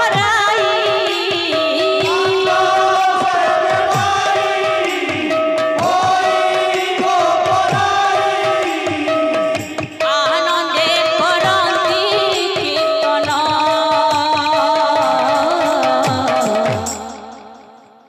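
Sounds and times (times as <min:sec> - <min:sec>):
voices singing: 0:00.0 - 0:17.4
drums beating: 0:00.0 - 0:17.6.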